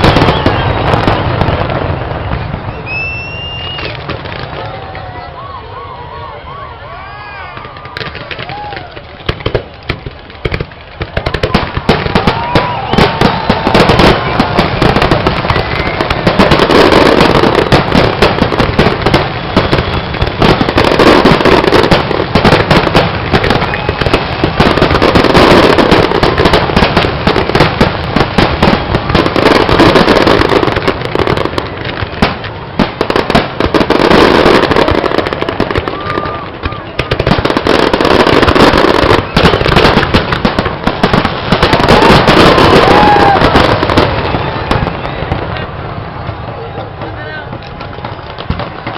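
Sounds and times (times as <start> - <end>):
fireworks bangs and crackling: 0.0 - 48.9.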